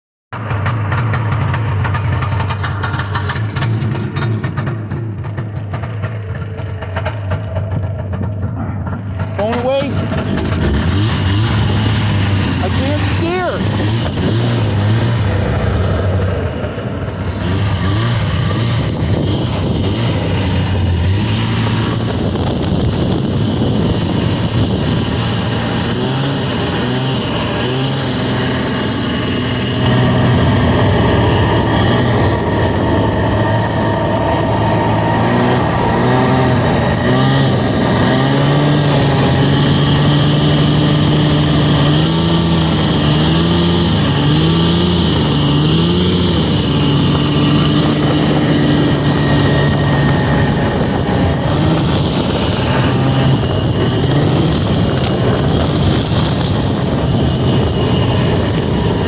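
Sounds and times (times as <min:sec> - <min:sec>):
snowmobile engine running: 0:00.4 - 0:59.0.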